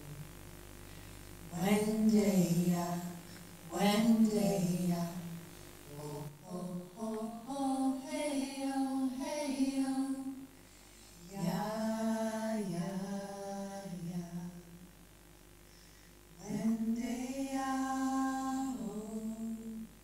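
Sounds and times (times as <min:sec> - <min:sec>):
woman singing unaccompanied chant: 0:01.5 - 0:14.9, 0:16.4 - 0:20.0.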